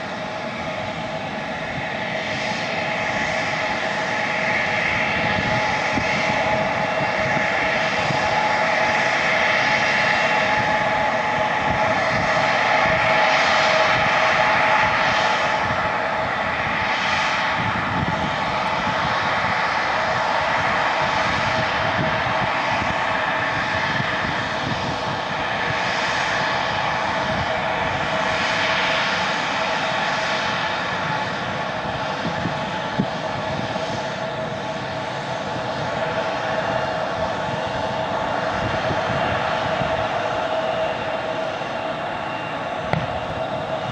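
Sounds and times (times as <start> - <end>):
jet engines whining at taxi power: 0.0 - 43.9.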